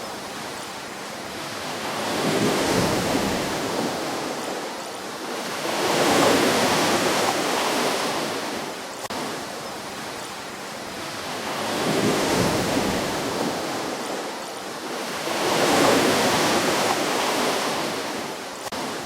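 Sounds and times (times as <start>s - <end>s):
ocean waves breaking on shore: 0.0s - 19.0s.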